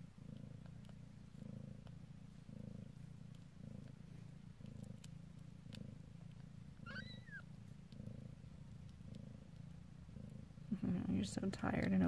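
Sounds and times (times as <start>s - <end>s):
cat purring softly: 0.0s - 12.0s.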